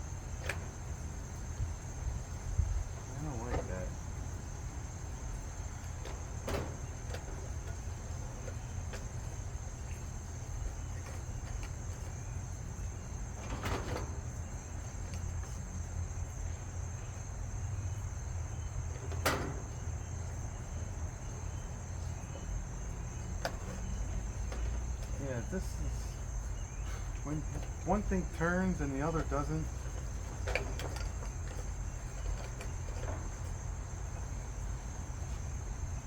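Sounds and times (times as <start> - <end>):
crickets chirping: 0.0 - 36.0
washing machine humming: 0.0 - 36.0.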